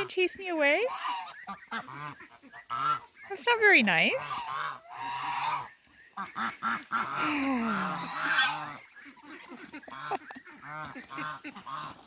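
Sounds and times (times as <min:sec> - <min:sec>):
ducks quacking: 0:00.0 - 0:12.0
geese honking: 0:00.0 - 0:12.0.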